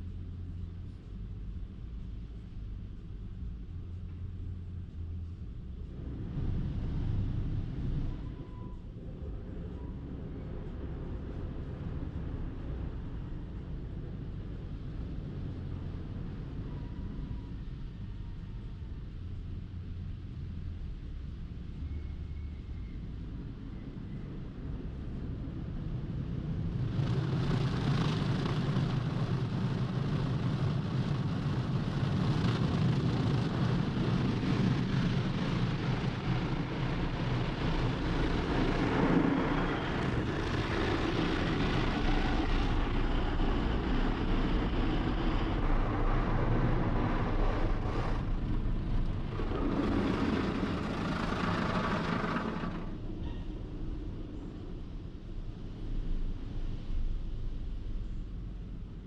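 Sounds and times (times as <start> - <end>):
machinery low hum: 0.0 - 59.0.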